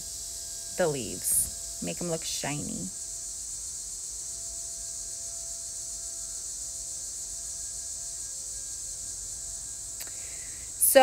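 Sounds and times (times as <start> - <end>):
faint steady hum: 0.0 - 11.0
steady high hiss: 0.0 - 11.0.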